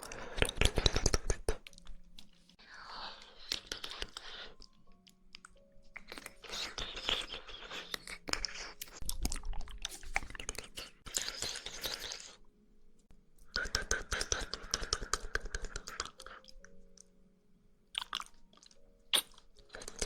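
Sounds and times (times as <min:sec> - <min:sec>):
mouth chewing jelly: 0:00.0 - 0:12.4, 0:13.4 - 0:17.1, 0:17.9 - 0:20.0.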